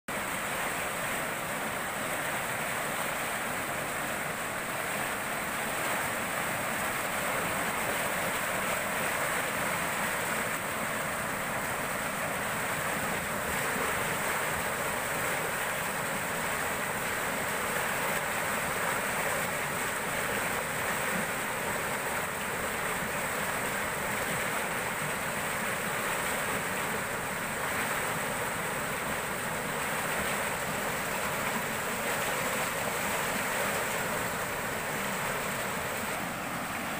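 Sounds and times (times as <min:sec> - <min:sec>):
river water rushing through weir: 0:00.1 - 0:36.9.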